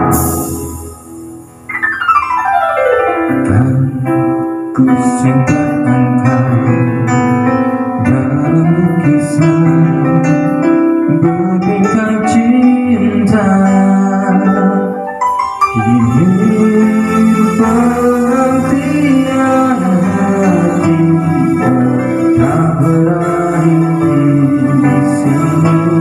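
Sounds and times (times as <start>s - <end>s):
guitar and keyboard music: 0.0s - 26.0s.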